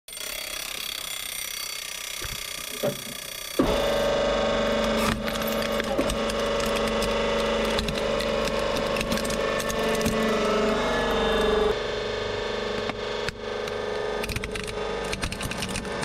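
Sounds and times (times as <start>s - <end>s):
hydraulic press humming: 2.0s - 16.0s.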